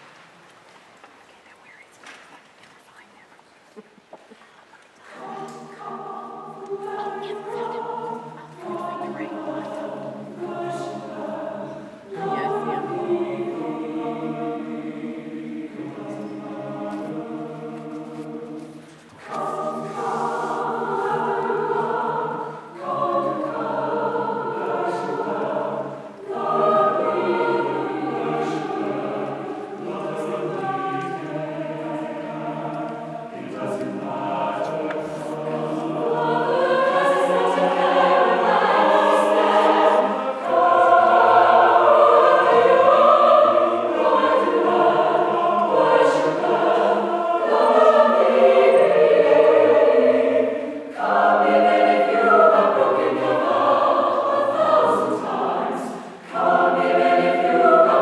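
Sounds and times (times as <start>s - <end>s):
mixed choir singing: 5.0s - 58.0s.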